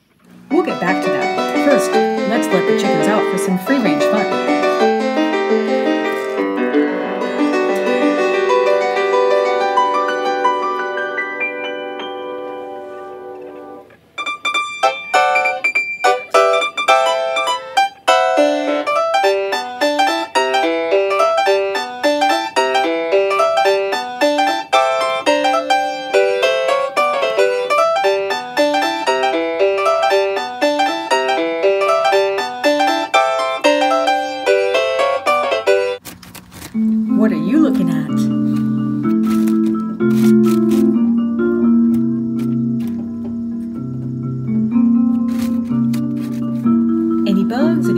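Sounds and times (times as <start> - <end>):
brisk piano tune: 0.0 - 36.0, 36.8 - 47.9.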